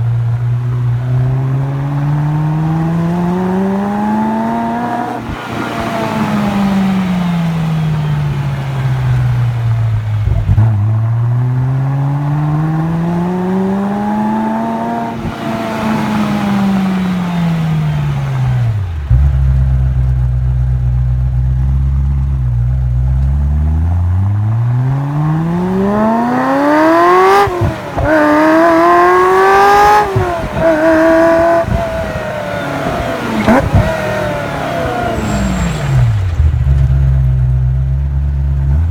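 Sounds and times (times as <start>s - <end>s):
sports car engine revving: 0.0s - 38.9s.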